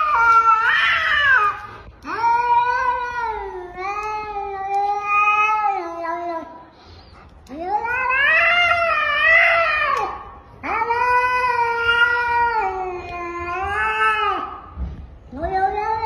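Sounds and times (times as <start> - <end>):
cat yowling: 0.0 - 6.6, 7.5 - 14.6.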